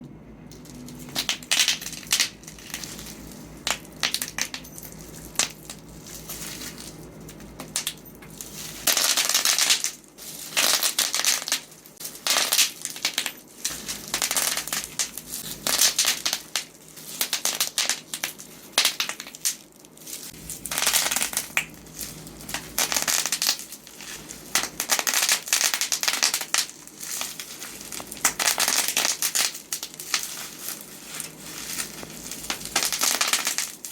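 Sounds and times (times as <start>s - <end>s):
crinkling plastic: 0.5s - 33.9s
bubble wrap popping: 0.7s - 33.9s.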